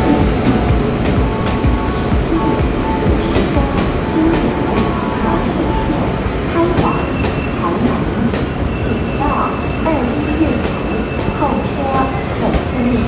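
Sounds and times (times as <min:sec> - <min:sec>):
high wheel squeals: 0:00.0 - 0:13.0
train rumbling on rails: 0:00.0 - 0:13.0.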